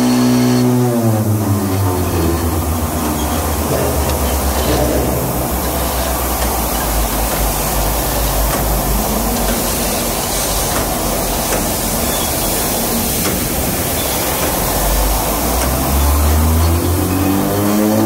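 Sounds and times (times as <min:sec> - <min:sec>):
loud machine din: 0:00.0 - 0:18.0.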